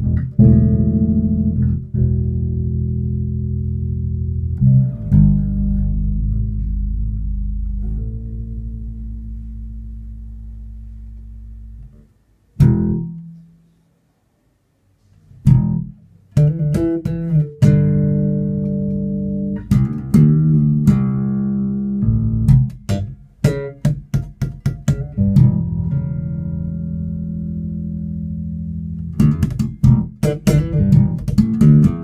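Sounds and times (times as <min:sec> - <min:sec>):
electric bass notes: 0:00.0 - 0:13.8, 0:15.3 - 0:32.0.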